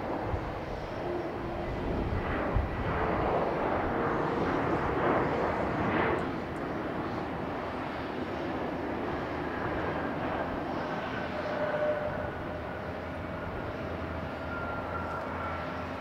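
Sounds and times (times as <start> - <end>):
jet airliner engines running: 0.0 - 16.0.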